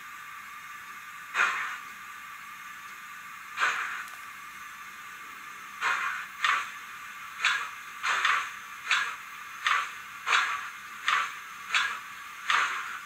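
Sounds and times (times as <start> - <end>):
steam locomotive exhaust chuffs: 0.0 - 13.0.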